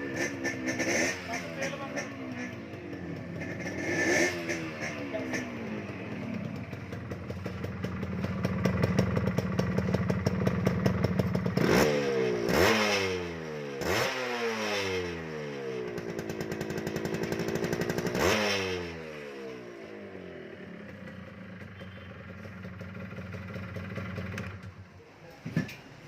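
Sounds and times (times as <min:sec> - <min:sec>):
motorcycle engine idling: 0:00.0 - 0:12.5, 0:15.3 - 0:24.9
motorcycle engine revving: 0:00.0 - 0:24.8.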